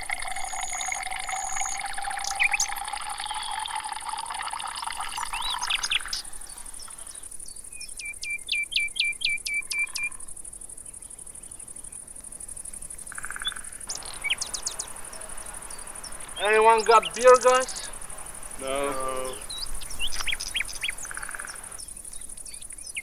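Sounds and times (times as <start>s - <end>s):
bird chirping: 0.0s - 10.2s, 12.7s - 23.0s.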